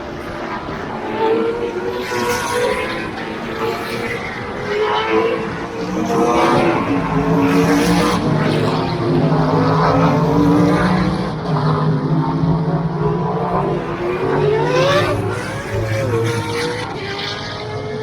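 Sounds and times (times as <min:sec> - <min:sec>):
race car engines passing: 0:00.0 - 0:18.0.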